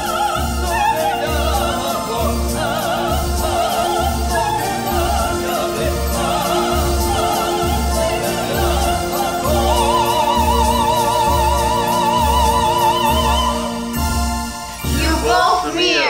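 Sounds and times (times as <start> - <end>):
soprano singing: 0.0 - 16.0.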